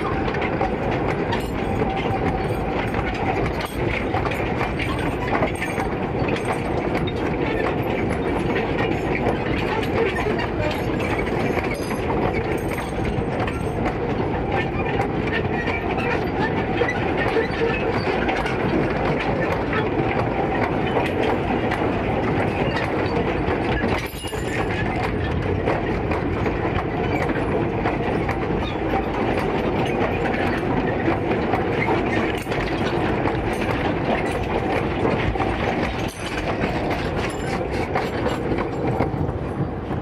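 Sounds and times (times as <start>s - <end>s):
train wagons clattering on track: 0.0s - 40.0s.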